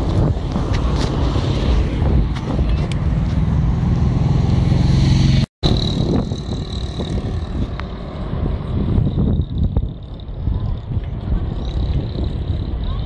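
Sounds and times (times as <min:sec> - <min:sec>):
wind buffeting microphone: 0:00.0 - 0:04.2, 0:05.6 - 0:13.0.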